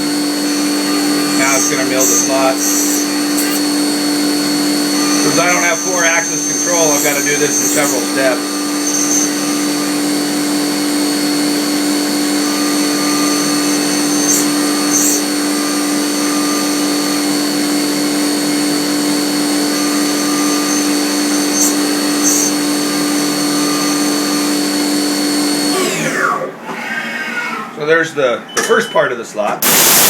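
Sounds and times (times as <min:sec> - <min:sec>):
milling machine spindle whine: 0:00.0 - 0:27.7, 0:29.6 - 0:30.0.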